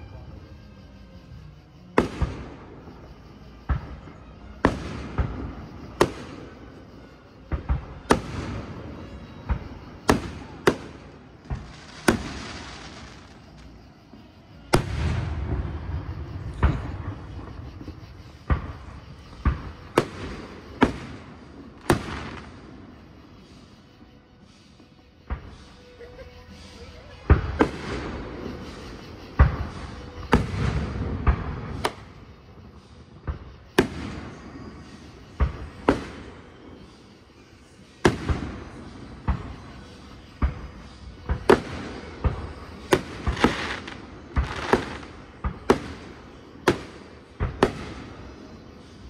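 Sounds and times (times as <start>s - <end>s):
fireworks bangs with echo: 1.9s - 23.6s, 27.2s - 49.0s.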